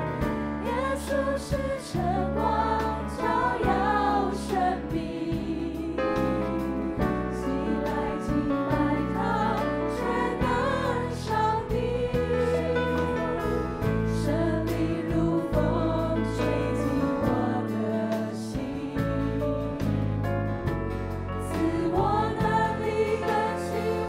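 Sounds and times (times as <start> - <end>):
voices singing together: 0.2 - 20.1, 21.4 - 24.0.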